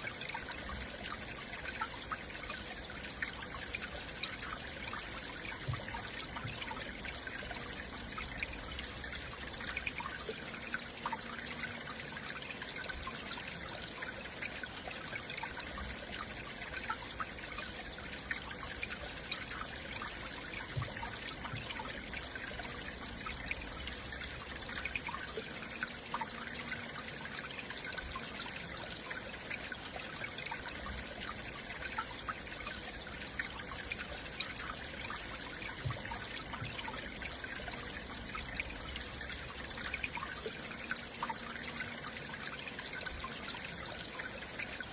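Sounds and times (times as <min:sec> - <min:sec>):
stream water flowing: 0:00.0 - 0:44.9.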